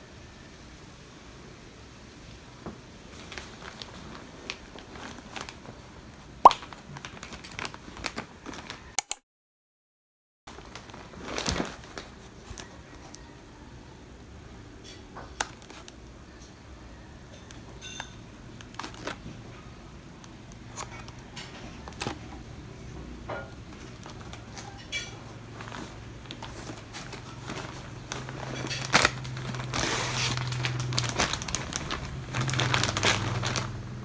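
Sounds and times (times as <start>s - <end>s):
plastic packaging crinkling: 3.1s - 9.0s, 10.5s - 13.4s, 14.8s - 34.0s.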